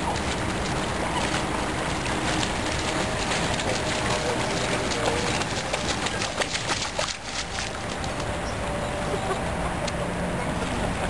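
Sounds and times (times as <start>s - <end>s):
dog wading through water: 0.0s - 11.0s.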